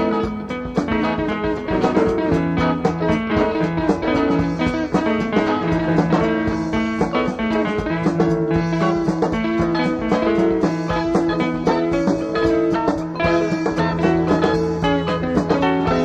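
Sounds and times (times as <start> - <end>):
plucked guitar music with steady beat: 0.0 - 16.0.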